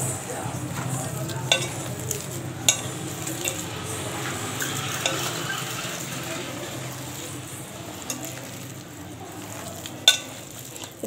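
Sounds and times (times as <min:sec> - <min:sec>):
hand kneading wet mixture: 0:00.0 - 0:11.0.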